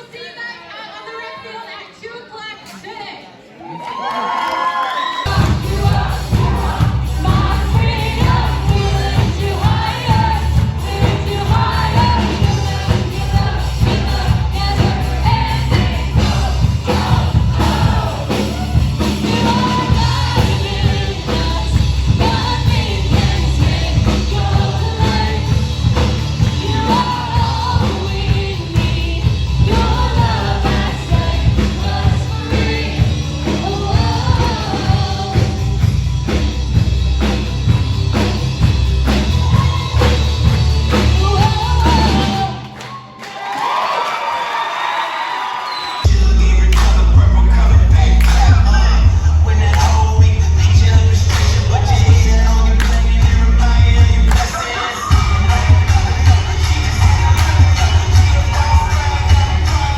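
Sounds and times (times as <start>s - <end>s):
rock song with singing: 5.2s - 43.1s, 45.6s - 59.9s.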